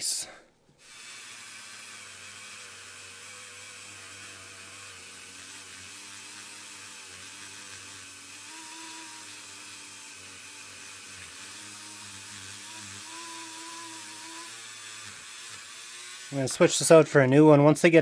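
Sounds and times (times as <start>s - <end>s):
rotary tool whirring: 0.8s - 16.8s.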